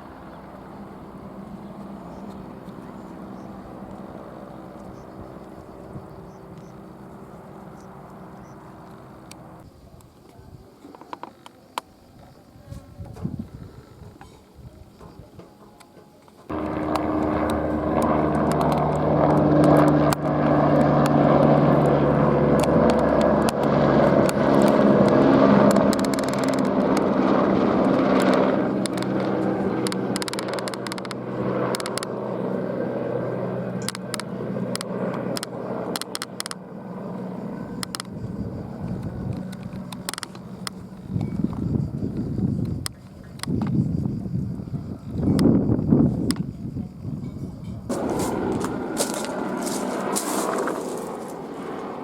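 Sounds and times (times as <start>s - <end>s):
helicopter flying close: 0.0s - 9.6s, 16.5s - 46.4s, 47.9s - 52.0s.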